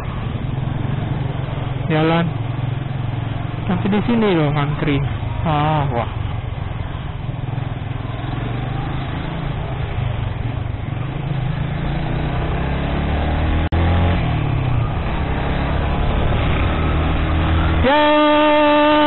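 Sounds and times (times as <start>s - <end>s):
motorcycle engine running: 0.0s - 19.0s
traffic: 0.0s - 19.0s.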